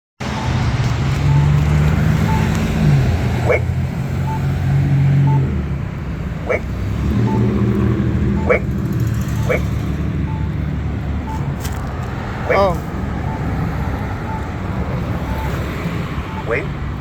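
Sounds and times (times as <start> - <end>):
pedestrian signal beeps: 0.2 - 4.6, 5.2 - 5.6, 6.4 - 11.6, 12.3 - 16.8
traffic engine hum: 0.2 - 17.0.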